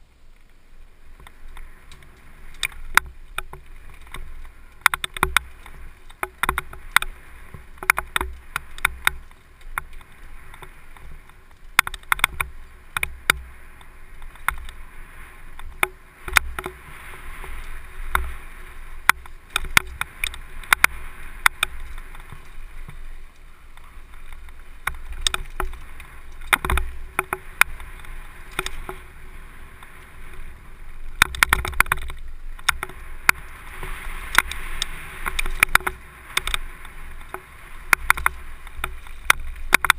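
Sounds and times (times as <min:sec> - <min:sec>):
mountain bike rattling over stony trail: 0:00.0 - 0:39.9
wind on microphone: 0:01.0 - 0:39.9.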